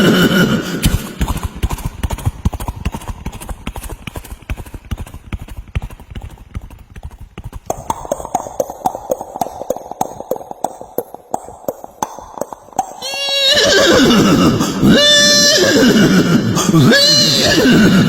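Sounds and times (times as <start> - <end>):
man clicking mouth like hoofbeats: 0.0 - 18.0.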